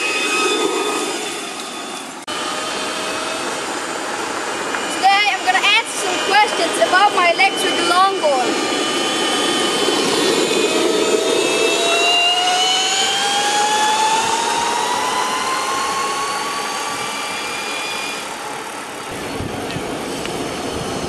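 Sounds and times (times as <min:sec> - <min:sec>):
drill motor whining: 0:00.0 - 0:21.0
wheel and wind noise: 0:00.0 - 0:21.0.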